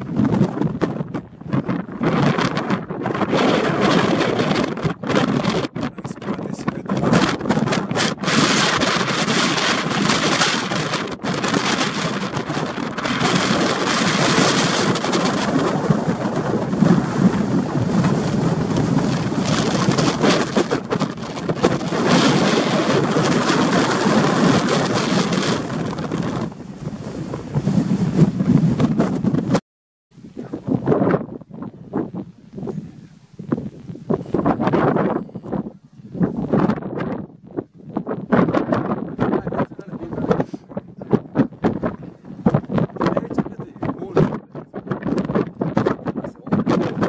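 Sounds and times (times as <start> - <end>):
wind buffeting microphone: 0.0 - 29.6, 30.2 - 47.0.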